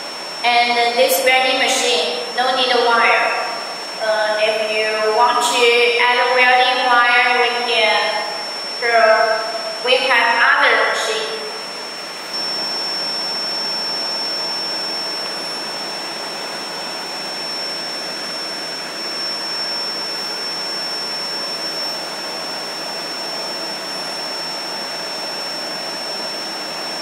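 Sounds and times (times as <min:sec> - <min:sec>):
welding machine hiss and whine: 0:00.0 - 0:27.0.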